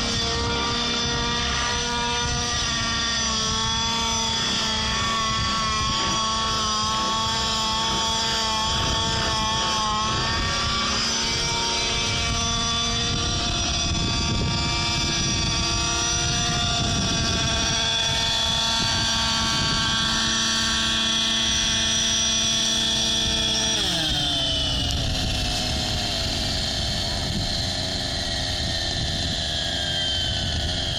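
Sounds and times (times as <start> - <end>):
model helicopter engine and rotor: 0.0 - 30.9.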